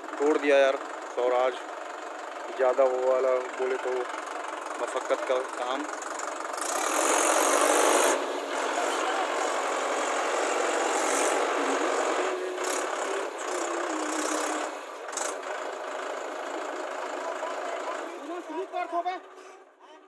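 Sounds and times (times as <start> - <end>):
tractor engine running: 0.0 - 19.7.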